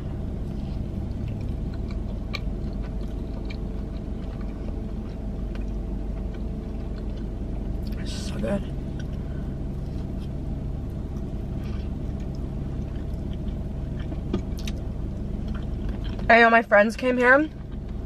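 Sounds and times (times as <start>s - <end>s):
car interior hum: 0.0s - 18.0s
chewing with wet mouth clicks: 0.5s - 8.0s, 8.9s - 9.2s, 10.0s - 16.3s, 17.5s - 18.0s.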